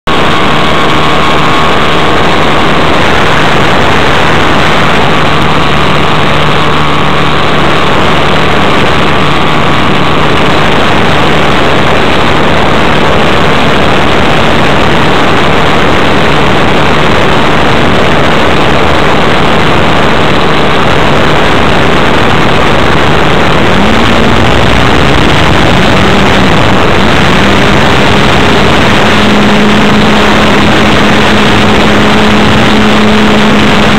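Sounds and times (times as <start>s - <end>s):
model airplane engine running: 0.1s - 33.9s.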